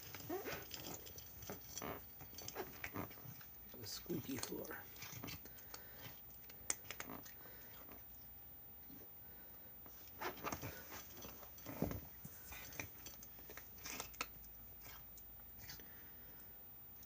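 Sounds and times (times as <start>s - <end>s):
cat crunching food: 0.0s - 8.3s, 10.4s - 16.4s.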